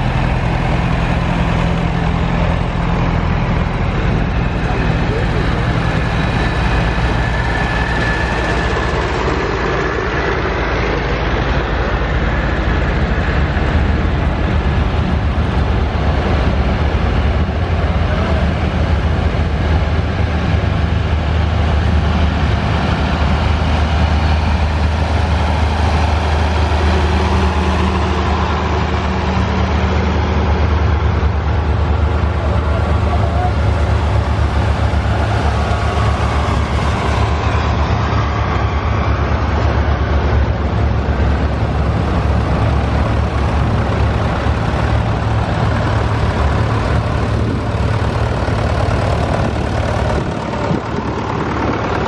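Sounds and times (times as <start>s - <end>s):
tractor engines driving past: 0.0s - 52.0s.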